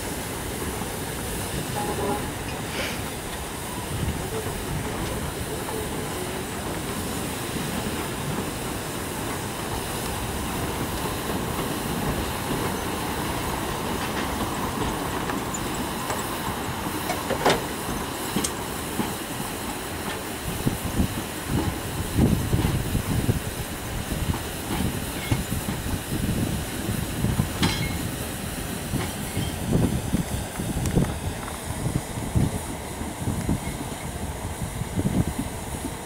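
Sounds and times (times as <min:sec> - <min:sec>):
train wagons rolling on track: 0:00.0 - 0:36.0.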